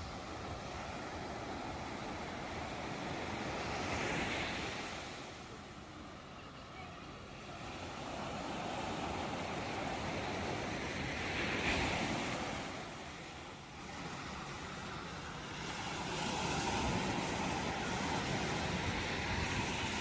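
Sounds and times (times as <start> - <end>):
waves breaking and washing in: 0.0 - 20.0.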